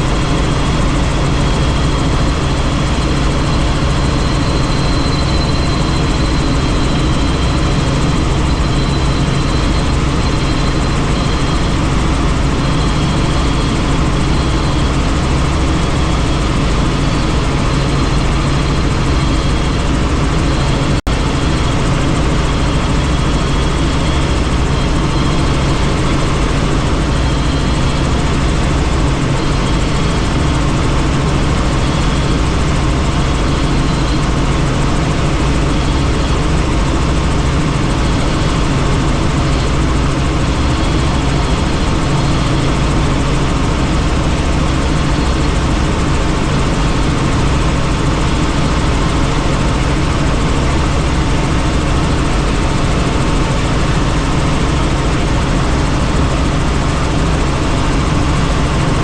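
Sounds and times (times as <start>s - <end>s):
helicopter engine and rotors: 0.0s - 59.0s.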